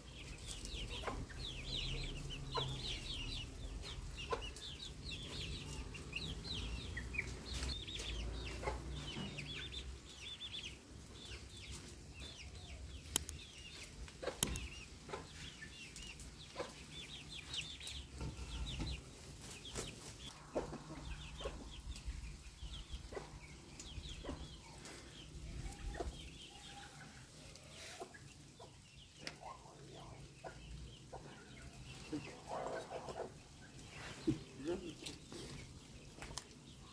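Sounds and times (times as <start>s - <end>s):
hens clucking: 0.0s - 36.8s
chicks peeping: 0.0s - 36.9s.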